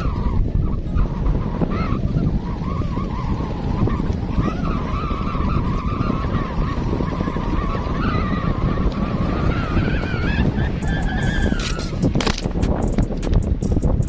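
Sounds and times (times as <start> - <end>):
wavering whistling tone: 0.0 - 12.2
gusty wind buffeting microphone: 0.0 - 14.0.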